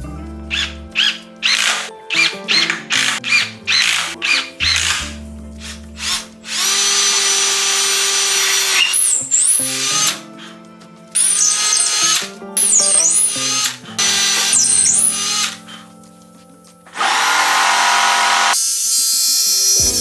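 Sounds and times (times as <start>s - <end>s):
background music: 0.0s - 20.0s
power tool running: 0.5s - 10.3s, 11.2s - 15.6s, 16.9s - 20.0s.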